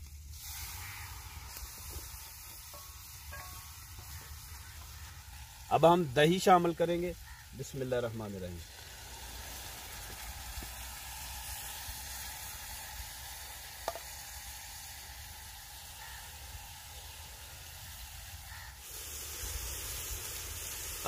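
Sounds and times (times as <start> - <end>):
masala sizzling in a pot: 0.0 - 21.0.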